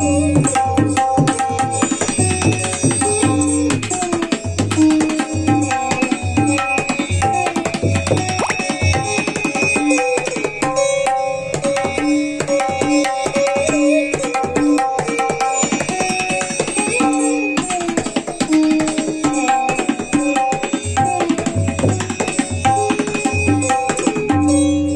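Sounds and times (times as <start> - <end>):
ringing right-hand drum: 0.0 - 24.9
tabla drumming: 0.0 - 24.9.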